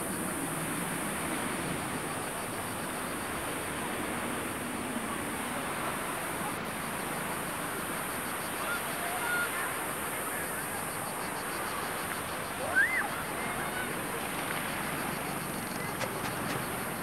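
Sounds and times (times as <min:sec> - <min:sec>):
distant jet engines roaring: 0:00.0 - 0:17.0.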